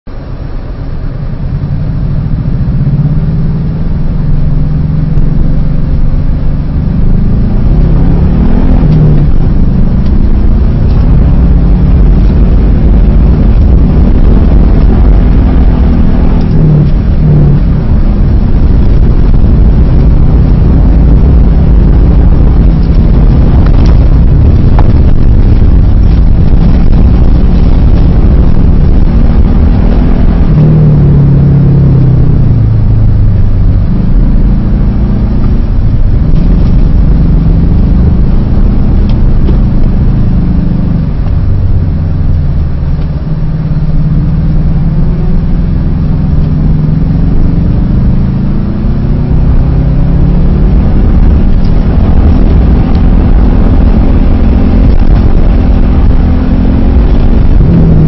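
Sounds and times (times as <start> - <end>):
car engine revving: 0.0 - 58.0
low rumble: 0.0 - 58.0.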